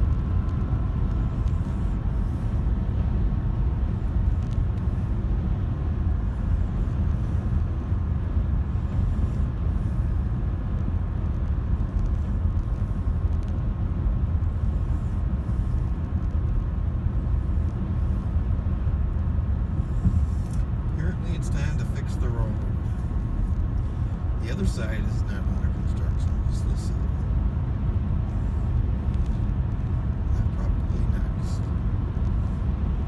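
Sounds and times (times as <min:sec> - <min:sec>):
car interior road rumble: 0:00.0 - 0:33.0.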